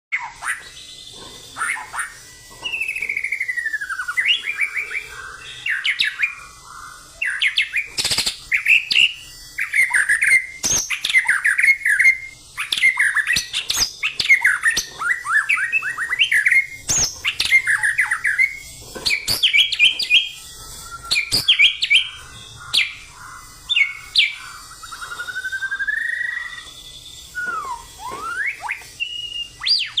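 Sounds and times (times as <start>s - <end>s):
bird singing whistled song: 0.1s - 6.5s, 7.2s - 30.0s.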